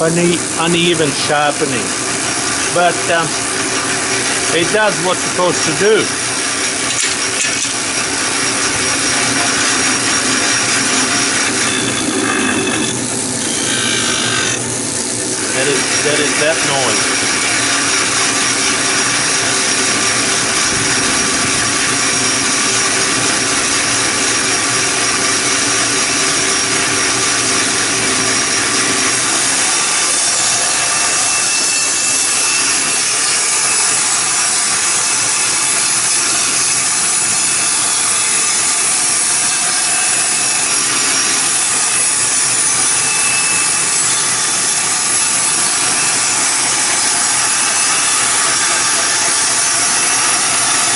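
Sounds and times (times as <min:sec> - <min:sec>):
band saw running: 0:00.0 - 0:50.9.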